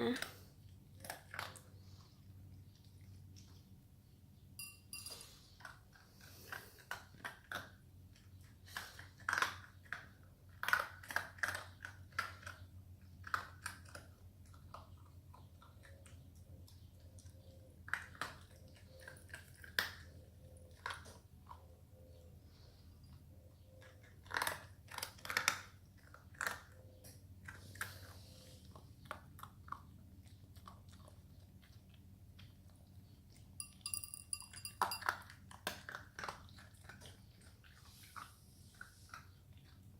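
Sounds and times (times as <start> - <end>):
dog crunching food: 0.1 - 3.8, 5.6 - 21.7, 23.8 - 39.9.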